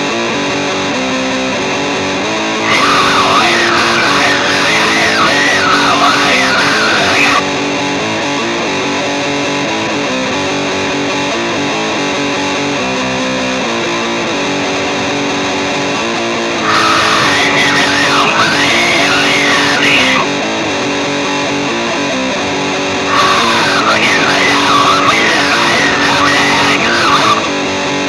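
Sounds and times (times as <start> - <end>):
sustained electric guitar chords: 0.0 - 28.0
bending guitar melody: 0.1 - 28.0.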